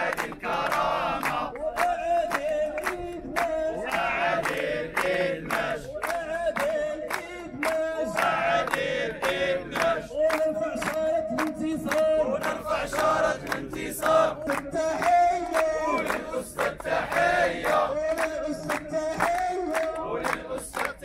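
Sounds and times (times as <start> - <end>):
crowd chanting to a tune: 0.0 - 21.0
rhythmic hand claps: 0.0 - 21.0.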